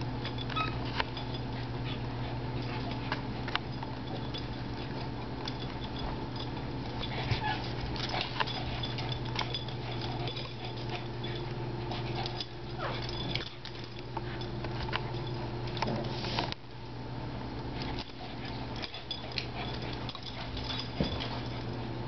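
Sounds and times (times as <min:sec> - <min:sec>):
steady low hum: 0:00.0 - 0:22.0
dogs scuffling: 0:00.2 - 0:16.6, 0:17.6 - 0:22.0.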